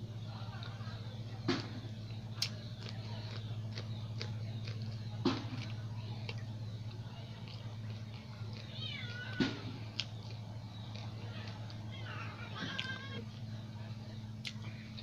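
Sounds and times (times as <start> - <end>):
low steady hum: 0.0 - 15.0
wet chewing sounds: 0.0 - 15.0.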